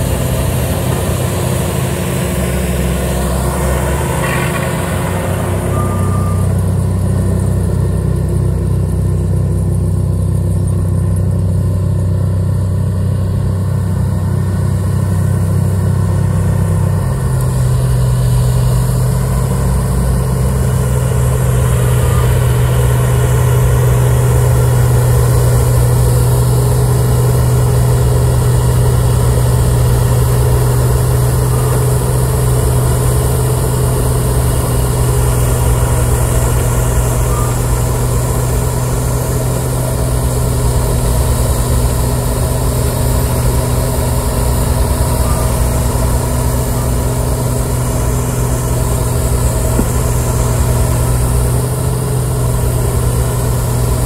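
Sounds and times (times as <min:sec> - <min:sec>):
snowblower hissing: 0:00.0 - 0:06.8, 0:15.5 - 0:54.0
diesel engine running under load: 0:00.0 - 0:54.0.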